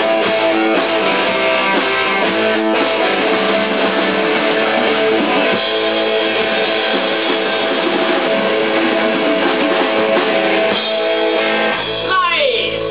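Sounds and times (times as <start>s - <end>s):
bass guitar: 0.0s - 12.9s
drum kit: 0.0s - 12.9s
strummed electric guitar: 0.0s - 12.9s.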